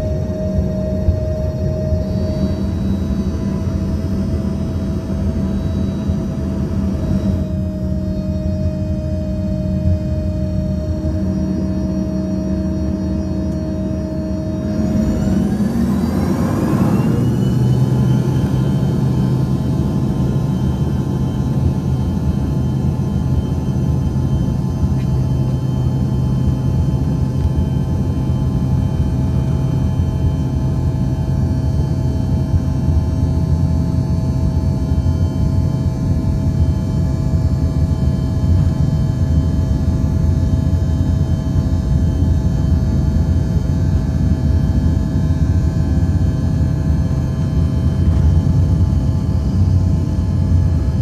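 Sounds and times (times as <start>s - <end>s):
jet engine rumble and whine: 0.0s - 51.0s.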